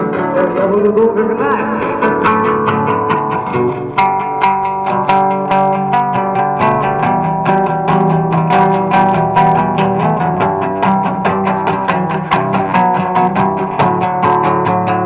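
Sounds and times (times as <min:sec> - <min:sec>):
acoustic guitar through amplifier: 0:00.0 - 0:15.0.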